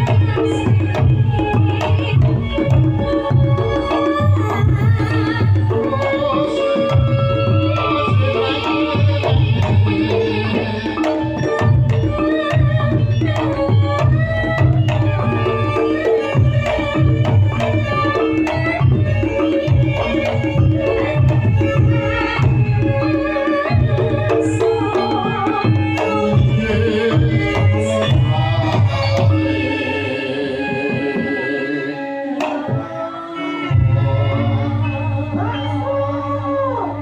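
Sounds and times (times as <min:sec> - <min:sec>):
hand drums playing steady pulse: 0:00.0 - 0:37.0.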